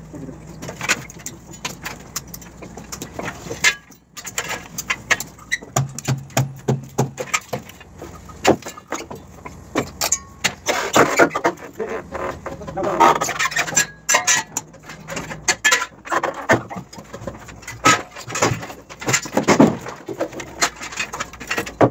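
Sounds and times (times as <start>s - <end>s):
metal clinks and knocks: 0.5s - 21.9s
plywood panels handled: 0.6s - 21.9s.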